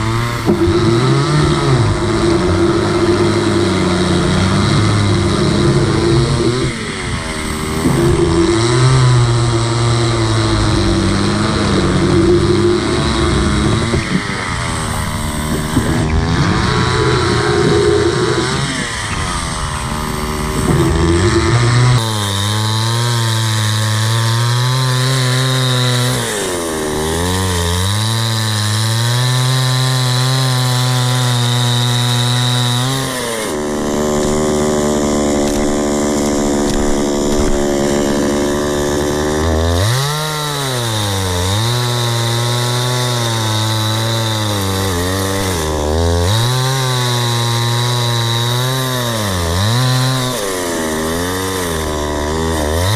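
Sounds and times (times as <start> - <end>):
chainsaw cutting through log: 0.0 - 52.9.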